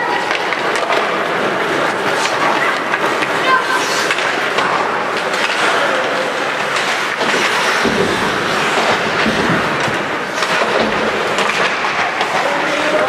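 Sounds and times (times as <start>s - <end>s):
hockey sticks and puck clacking: 0.0s - 13.0s
skate blades scraping ice: 0.0s - 13.0s.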